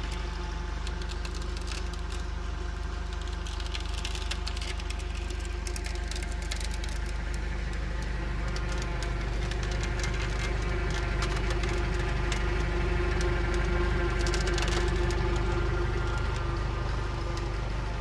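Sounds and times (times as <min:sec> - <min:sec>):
rapid clicks: 0:00.0 - 0:18.0
tractor diesel engine running: 0:00.0 - 0:18.0
whine: 0:00.0 - 0:18.0.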